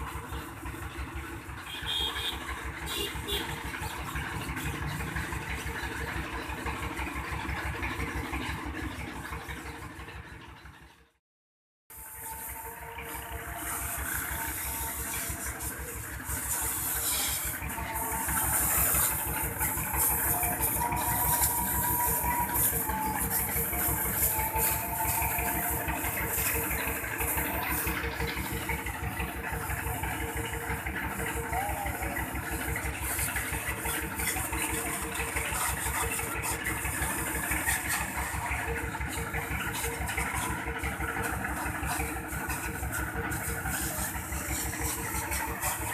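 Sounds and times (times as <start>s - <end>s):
hose water spraying: 0.0s - 8.6s, 11.9s - 45.9s
engine idling: 0.0s - 11.2s, 11.9s - 45.9s.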